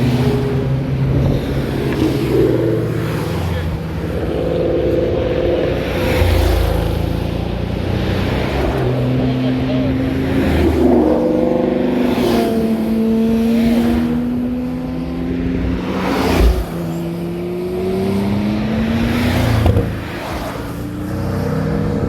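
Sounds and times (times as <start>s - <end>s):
cars driving past revving: 0.0s - 22.0s.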